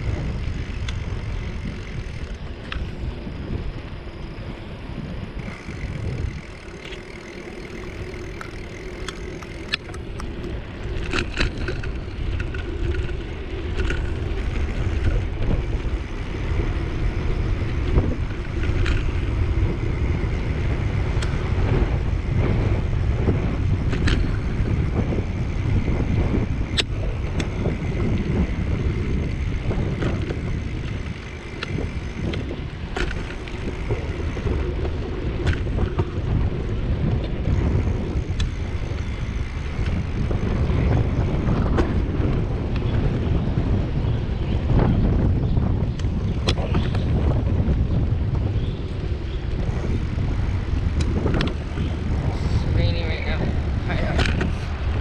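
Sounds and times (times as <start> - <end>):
bicycle tyres rumbling on concrete: 0.0 - 55.0
bike clicking and rattling: 0.0 - 55.0
wind buffeting microphone: 0.0 - 55.0.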